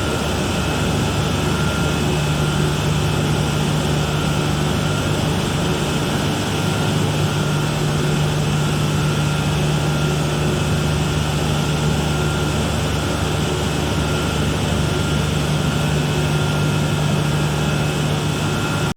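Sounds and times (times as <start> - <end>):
machinery drone with low hum: 0.0 - 18.9.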